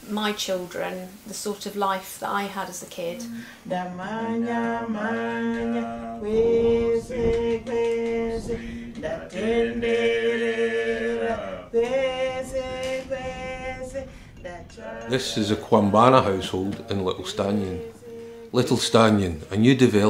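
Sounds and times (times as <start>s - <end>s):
voices singing long slow notes: 3.0s - 19.6s.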